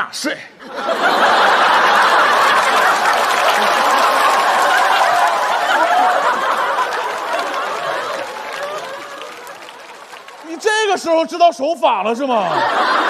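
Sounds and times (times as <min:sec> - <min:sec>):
audience laughing: 0:00.6 - 0:11.0, 0:12.2 - 0:13.0.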